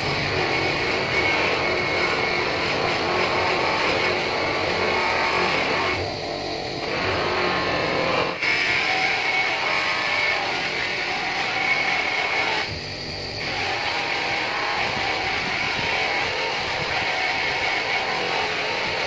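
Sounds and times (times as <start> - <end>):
polishing motor whirring: 0.0 - 19.0.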